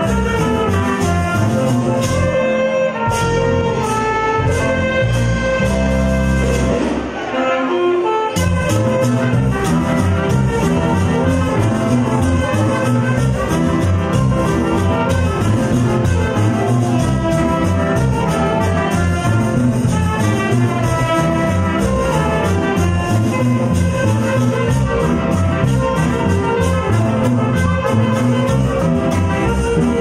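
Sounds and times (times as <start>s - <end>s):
live band playing instrumental music: 0.0s - 30.0s
saxophones and brass: 0.0s - 30.0s.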